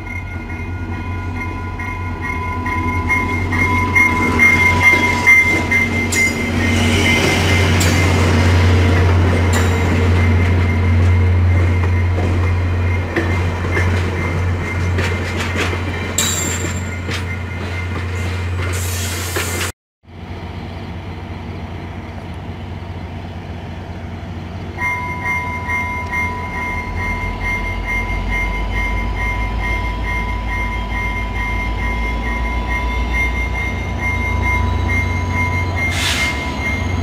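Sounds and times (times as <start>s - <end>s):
locomotive bell ringing: 0.0s - 18.7s, 24.2s - 37.0s
train wheel squeal: 0.0s - 19.7s, 24.8s - 37.0s
diesel locomotive rumbling: 0.0s - 37.0s
passenger train cars rolling past: 0.0s - 37.0s.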